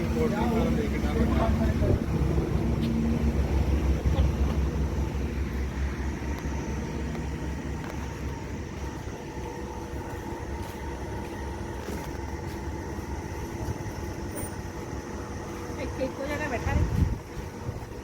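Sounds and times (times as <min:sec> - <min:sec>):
faint steady hum: 0:00.0 - 0:18.0
vehicle engine rumbling: 0:00.0 - 0:18.0.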